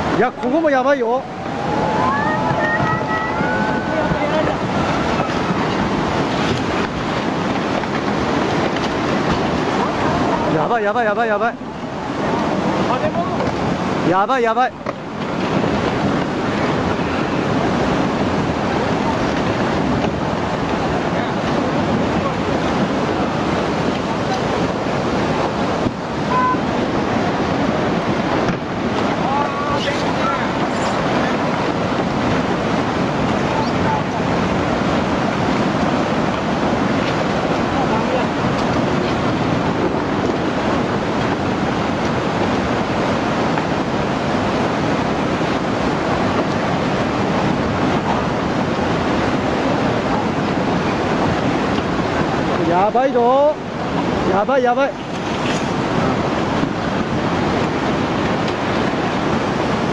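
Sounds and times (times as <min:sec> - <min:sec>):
floodwater rushing: 0:00.0 - 0:59.9
wind buffeting microphone: 0:00.0 - 0:59.9.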